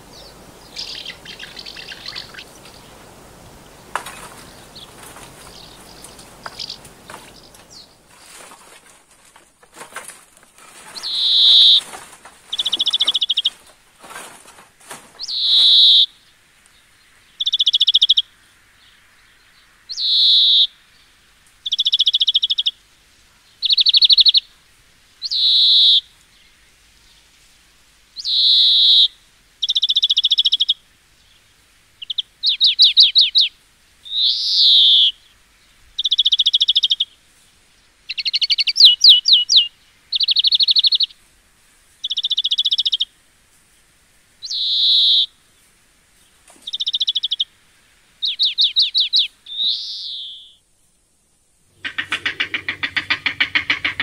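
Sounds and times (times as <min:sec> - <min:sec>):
songbird singing: 0:00.0 - 0:50.7, 0:51.6 - 0:54.0.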